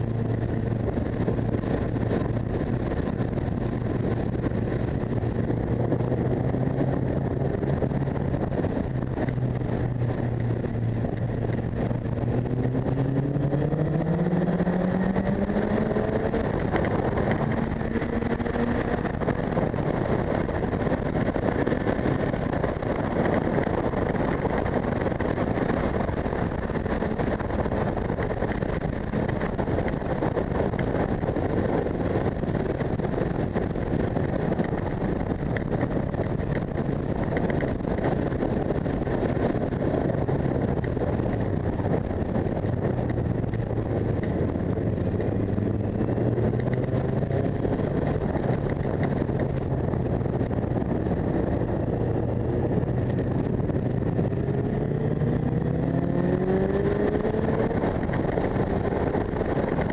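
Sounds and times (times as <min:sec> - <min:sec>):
motorcycle engine droning: 0:00.0 - 0:59.9
wind rushing over microphone: 0:00.0 - 0:59.9.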